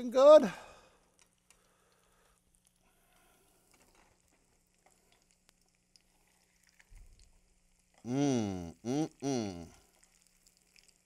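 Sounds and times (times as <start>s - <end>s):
faint sizzle of frying in oil: 0.0s - 11.0s.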